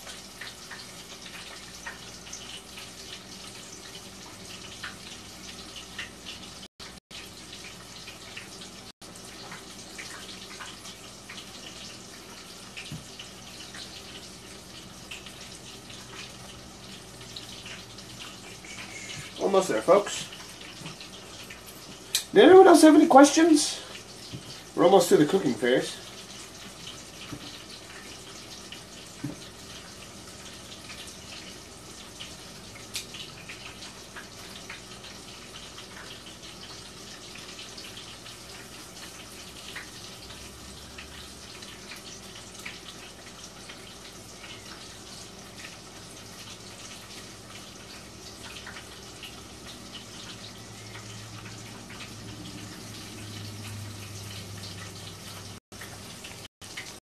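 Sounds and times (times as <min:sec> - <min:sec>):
shrimp deep-frying in oil: 0:00.0 - 0:57.0.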